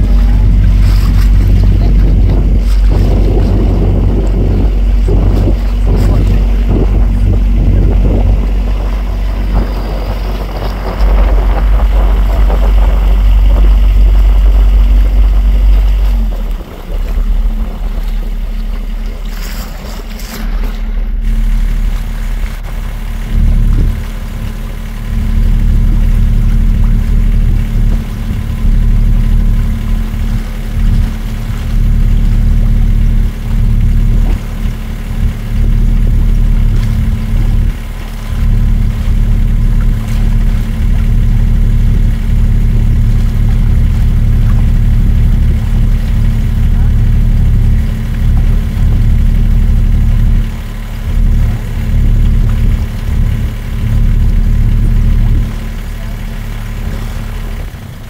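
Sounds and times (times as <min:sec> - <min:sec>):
motorboat engine humming: 0:00.0 - 0:58.0
water splashing against hull: 0:00.0 - 0:58.0
wind rumbling on microphone: 0:00.0 - 0:58.0.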